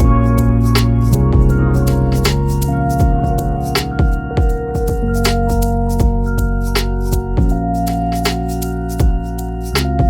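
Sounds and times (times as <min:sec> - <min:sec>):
keyboard and synth chords: 0:00.0 - 0:10.0
light percussion beat: 0:00.0 - 0:10.0.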